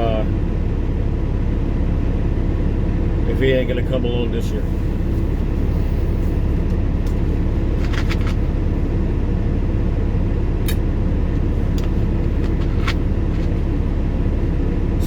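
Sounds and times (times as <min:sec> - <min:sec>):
vehicle idling rumble: 0:00.0 - 0:15.0.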